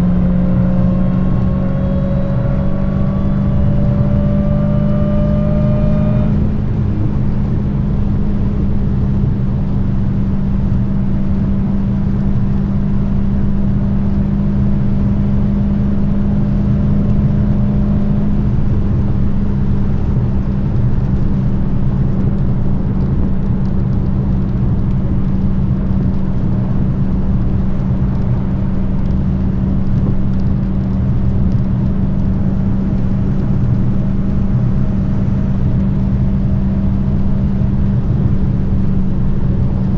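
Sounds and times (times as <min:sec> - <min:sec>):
car exhaust drone: 0:00.0 - 0:39.9
high engine whine: 0:00.0 - 0:39.9.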